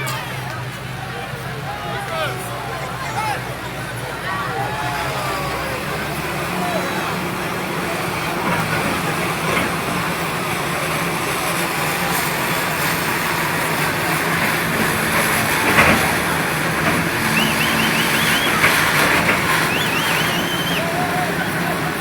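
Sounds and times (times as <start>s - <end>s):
outdoor traffic noise: 0.0s - 22.0s.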